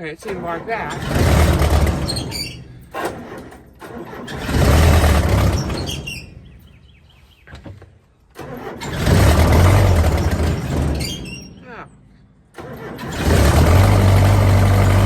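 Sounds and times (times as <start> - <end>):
diesel engine starting: 0.0 - 7.0, 8.1 - 15.0.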